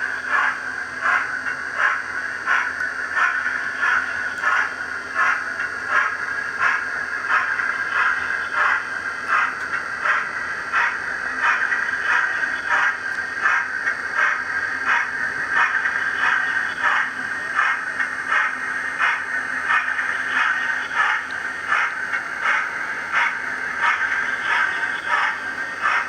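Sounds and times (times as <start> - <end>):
model steam locomotive running: 0.0 - 26.0.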